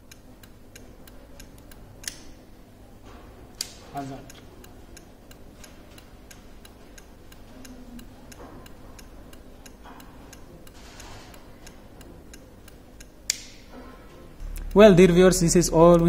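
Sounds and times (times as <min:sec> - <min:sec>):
flasher relay clicking: 0:00.0 - 0:16.0.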